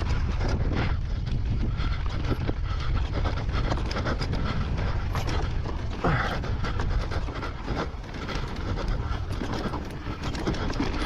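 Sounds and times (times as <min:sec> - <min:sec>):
wind rumble on microphone: 0:00.0 - 0:11.0
person breathing hard: 0:00.4 - 0:11.0.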